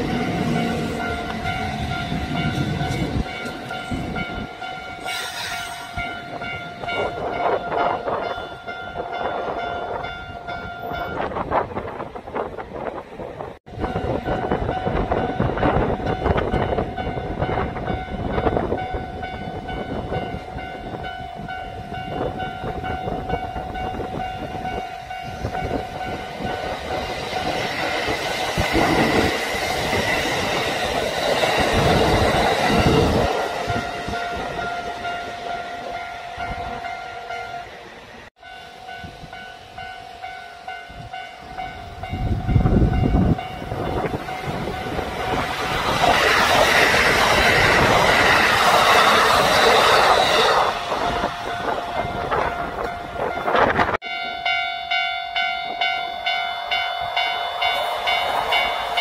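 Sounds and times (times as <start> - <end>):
steady high tone: 0.0 - 11.4, 13.7 - 59.0.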